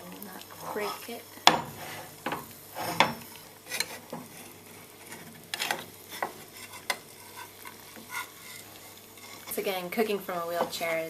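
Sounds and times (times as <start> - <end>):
butter sizzling: 0.0 - 11.0
spatula scraping frying pan: 0.4 - 11.0.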